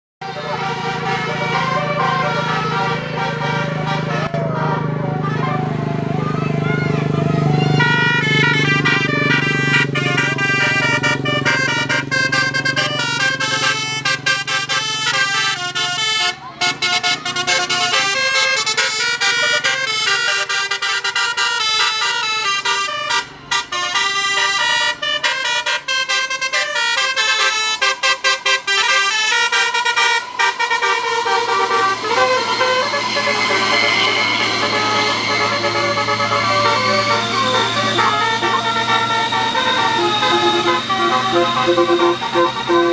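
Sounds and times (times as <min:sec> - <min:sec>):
bus horn playing a tune: 0:00.2 - 0:42.9
low engine hum: 0:00.2 - 0:42.9.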